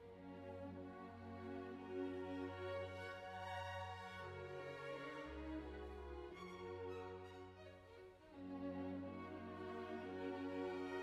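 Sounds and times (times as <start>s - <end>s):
slow bowed string music: 0.0s - 11.0s.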